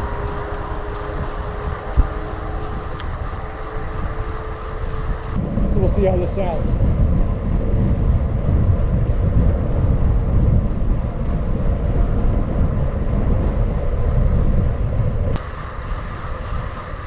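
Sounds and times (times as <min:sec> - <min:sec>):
wind and road rumble: 0:00.0 - 0:17.0.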